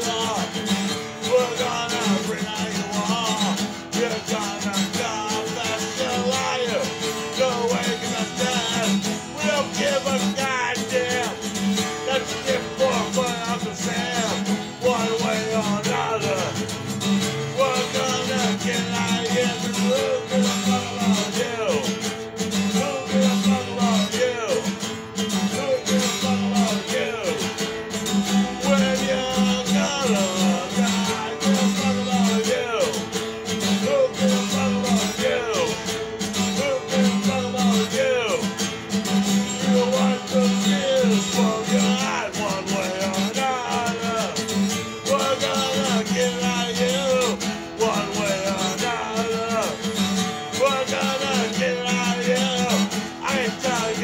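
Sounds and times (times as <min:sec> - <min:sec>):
acoustic guitar: 0:00.0 - 0:54.0
man singing: 0:00.0 - 0:54.0.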